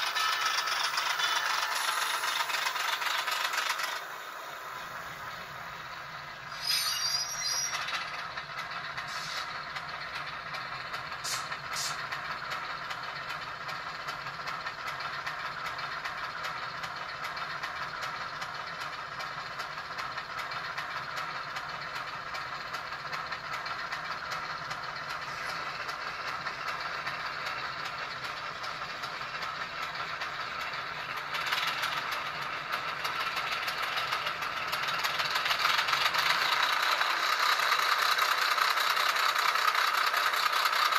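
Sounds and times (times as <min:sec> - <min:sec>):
diesel engine sound from small speaker: 0:00.0 - 0:40.9.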